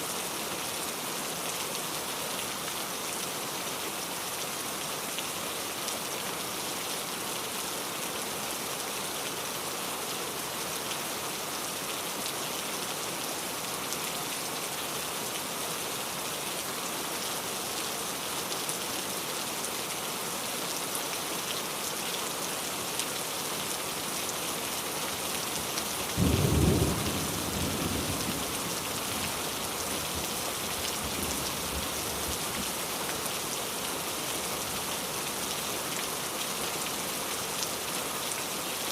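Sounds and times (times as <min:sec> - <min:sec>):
heavy rainfall: 0:00.0 - 0:38.9.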